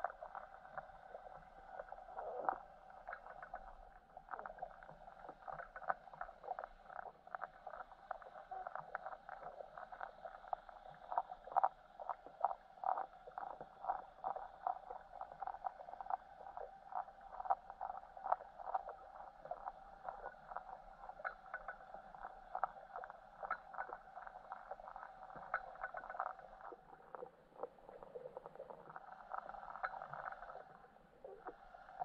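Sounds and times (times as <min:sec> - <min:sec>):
crackling clicks underwater: 0:00.0 - 0:32.0
underwater hum: 0:00.0 - 0:32.0.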